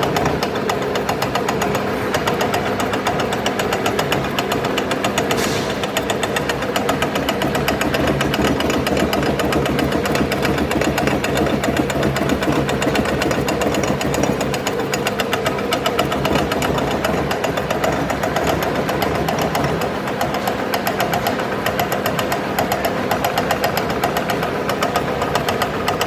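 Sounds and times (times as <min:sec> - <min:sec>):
tiller engine running: 0:00.0 - 0:26.0.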